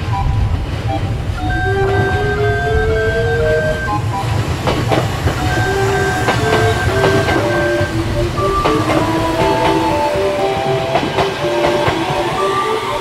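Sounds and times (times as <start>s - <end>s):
background music simple melody: 0.0s - 13.0s
electric train rumbling past: 0.0s - 13.0s
train wheels clicking over rail joints: 0.1s - 13.0s.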